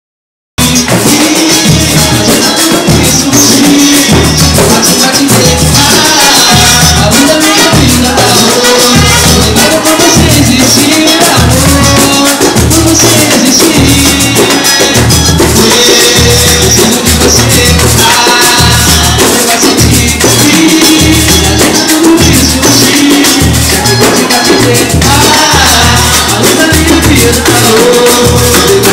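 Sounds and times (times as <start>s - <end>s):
person singing: 0.6s - 28.9s
pulsing bass line: 0.6s - 28.9s
shaker and tambourine percussion: 0.6s - 28.9s.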